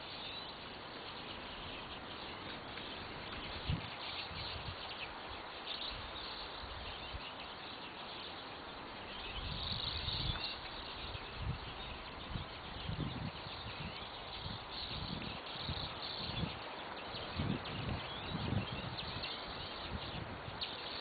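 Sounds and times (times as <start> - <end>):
outdoor background hiss: 0.0 - 21.0
small birds chirping: 0.0 - 21.0.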